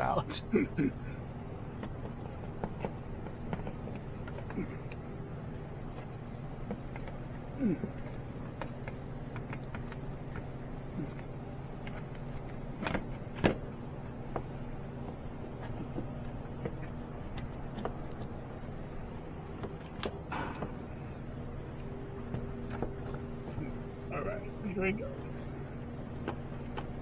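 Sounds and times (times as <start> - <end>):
steady hum: 0.0 - 27.0.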